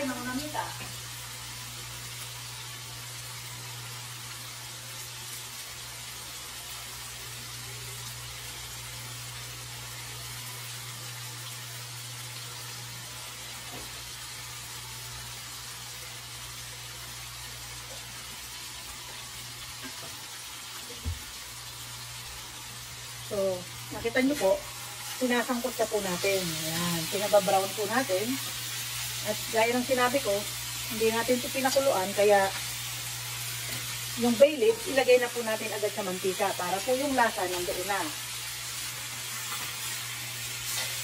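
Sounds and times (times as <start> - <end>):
chicken sizzling in hot oil: 0.0 - 41.0.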